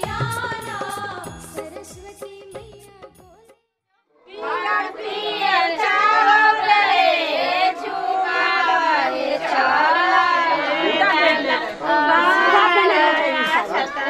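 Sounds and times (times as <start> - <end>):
women singing together: 0.0 - 3.0, 4.3 - 14.0.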